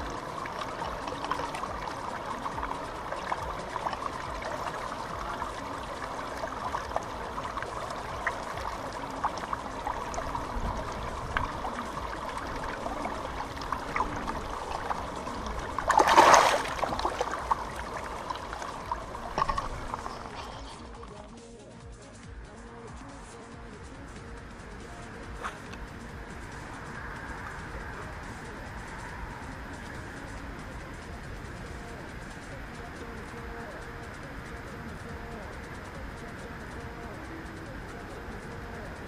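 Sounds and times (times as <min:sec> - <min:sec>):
fish splashing: 0:00.0 - 0:21.4, 0:23.8 - 0:39.0
river water trickling: 0:00.0 - 0:39.0.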